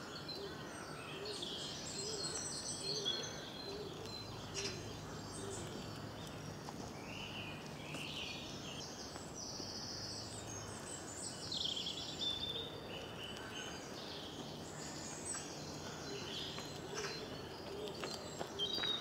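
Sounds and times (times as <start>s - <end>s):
woodland birds singing: 0.0s - 19.0s.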